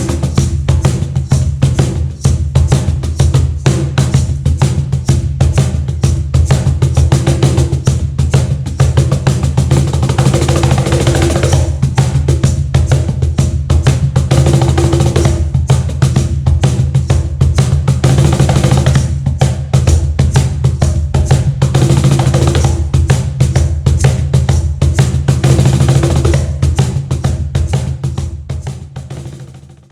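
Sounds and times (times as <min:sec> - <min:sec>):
cajon played by hand: 0:00.0 - 0:29.9.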